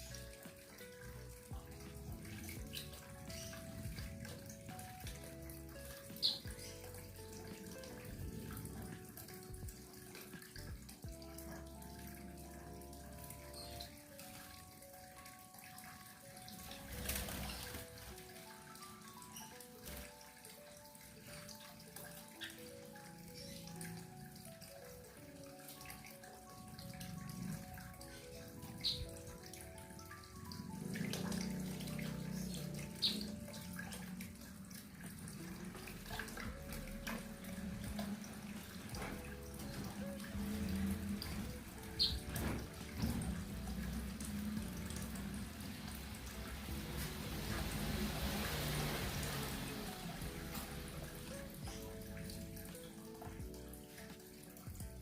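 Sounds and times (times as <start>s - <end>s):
water running and splashing: 0.0s - 55.0s.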